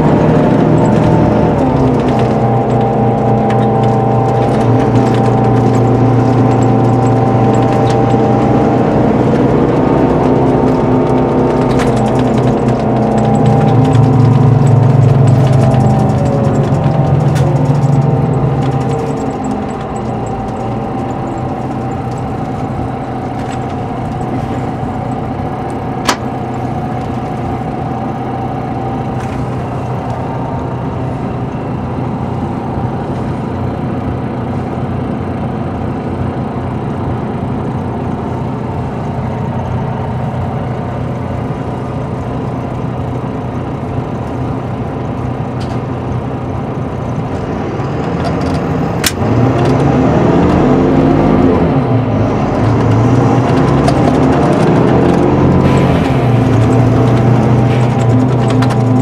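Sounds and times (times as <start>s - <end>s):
coach engine droning: 0.0s - 59.0s
road noise: 0.0s - 59.0s.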